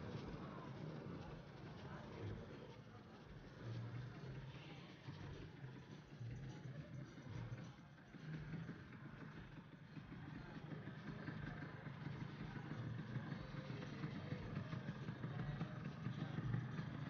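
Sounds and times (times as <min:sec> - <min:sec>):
scooter engines idling: 0:00.0 - 0:17.0.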